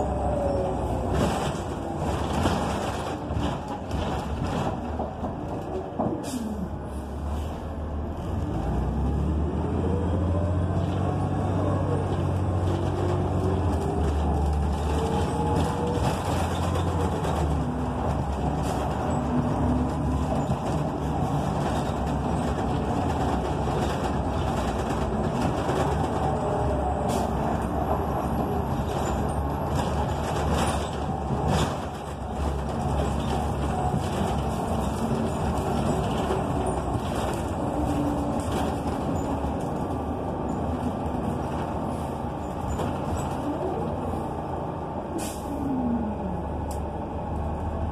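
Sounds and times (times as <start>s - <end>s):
bus engine accelerating: 0.0s - 47.9s
road noise: 0.0s - 47.9s.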